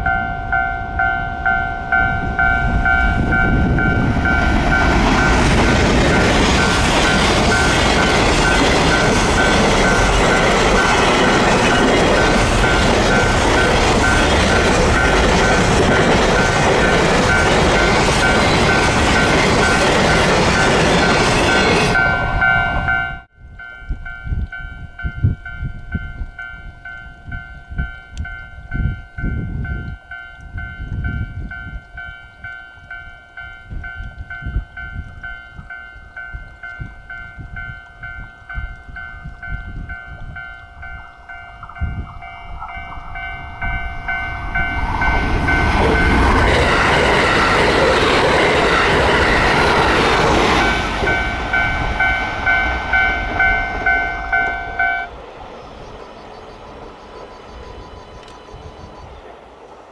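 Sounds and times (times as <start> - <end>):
train running past: 0.0 - 23.7, 28.7 - 59.9
level crossing warning bell: 0.0 - 55.2
wind gusting on microphone: 0.0 - 59.5.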